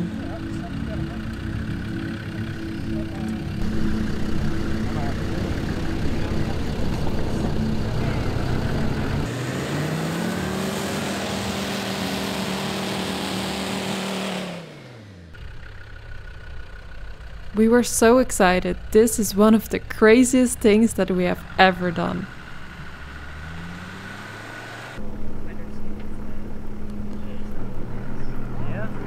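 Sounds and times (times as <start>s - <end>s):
vehicle engine rumbling and revving: 0.0s - 29.0s.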